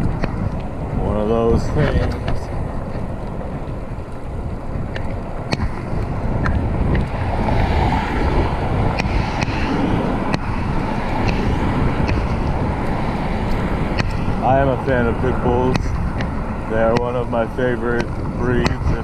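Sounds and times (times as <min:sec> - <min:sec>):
bicycle ticks and rattles: 0:00.0 - 0:19.0
tyre and road rumble: 0:00.0 - 0:19.0
wind buffeting microphone: 0:00.0 - 0:19.0.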